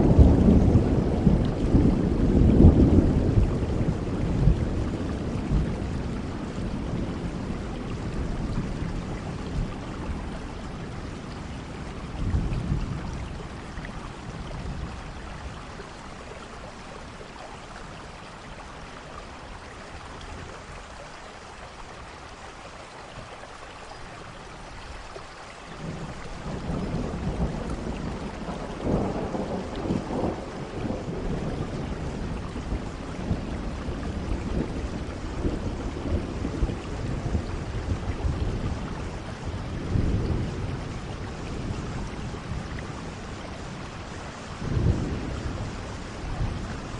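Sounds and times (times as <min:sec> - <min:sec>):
rolling thunder: 0:00.0 - 0:16.7, 0:25.8 - 0:46.9
steady rain falling: 0:00.0 - 0:46.9.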